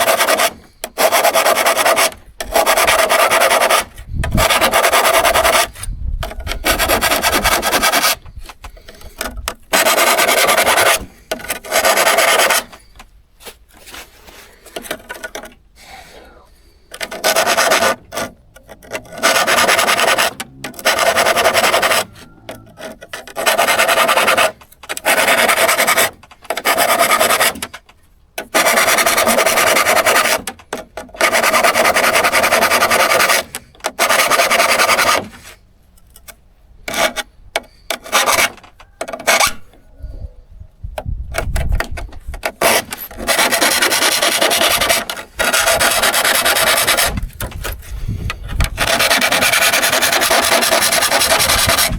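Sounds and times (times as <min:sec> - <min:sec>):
file rasping on saw teeth: 0:00.0 - 0:12.9, 0:16.8 - 0:27.7, 0:28.4 - 0:35.6, 0:36.9 - 0:39.7, 0:41.5 - 0:51.9.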